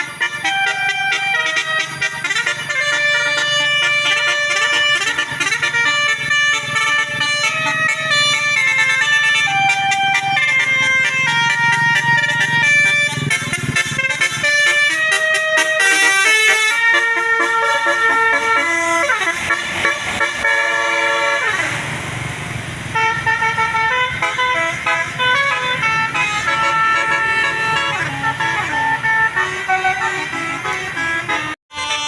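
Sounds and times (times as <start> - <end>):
bus horn playing a tune: 0.0 - 22.0, 22.8 - 32.0.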